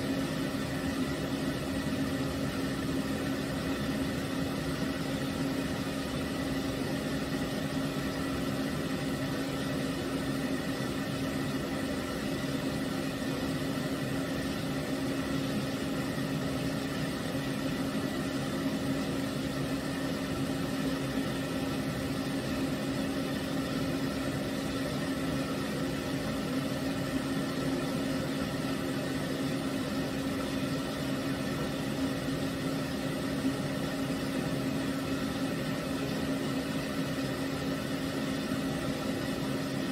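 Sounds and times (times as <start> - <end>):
pet dryer motor and blown air: 0.0 - 39.9.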